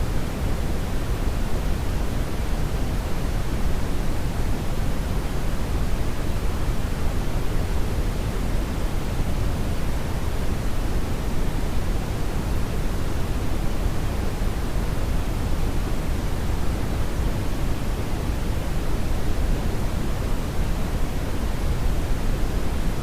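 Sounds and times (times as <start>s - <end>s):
low steady noise rush: 0.0s - 23.0s.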